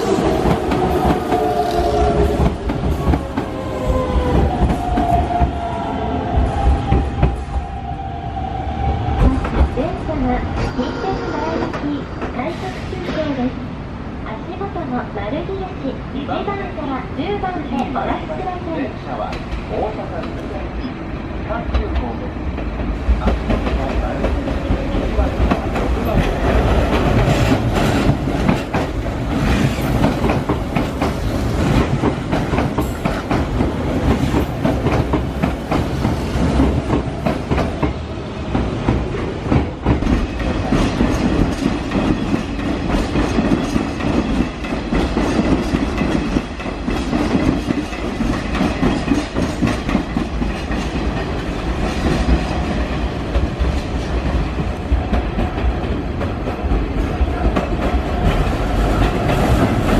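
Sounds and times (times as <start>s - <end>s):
train wheels rumbling: 0.0s - 15.0s, 21.5s - 59.9s.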